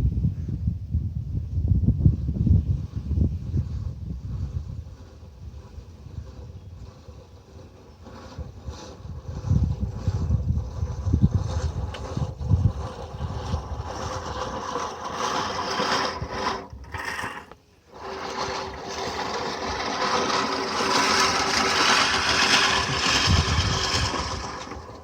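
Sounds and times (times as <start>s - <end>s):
reel mower blades whirring: 2.3s - 25.0s.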